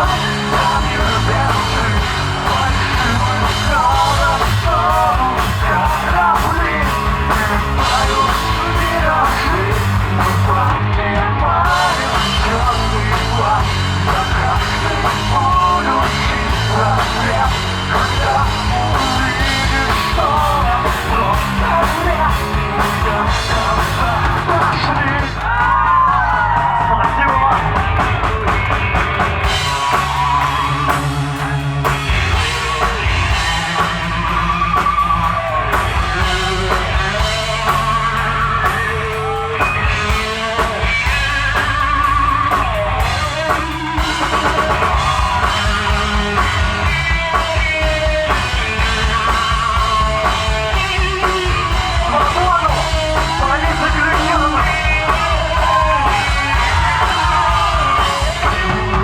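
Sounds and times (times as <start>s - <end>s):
person singing: 0.0s - 28.4s, 29.4s - 59.0s
drum kit beat: 0.0s - 59.0s
guitars: 0.0s - 59.0s.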